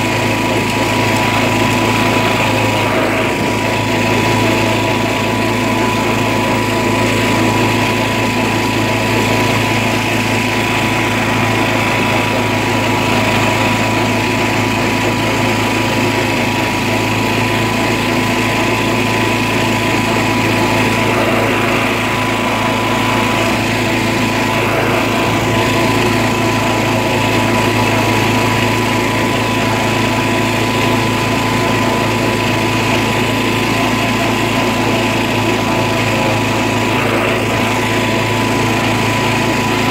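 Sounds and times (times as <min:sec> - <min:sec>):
lawn tractor engine droning: 0:00.0 - 0:39.9
steady high whine: 0:00.0 - 0:39.9.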